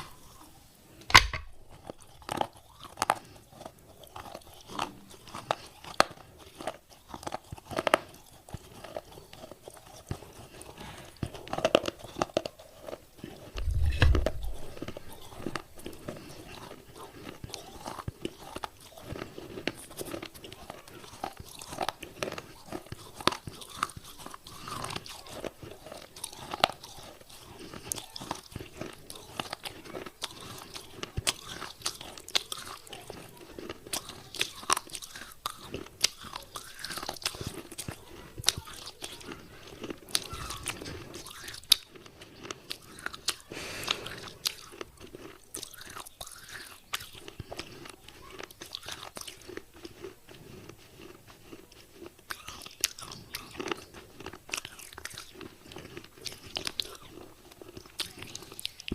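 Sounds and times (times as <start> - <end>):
person chewing crunchy clay: 0.0 - 58.9.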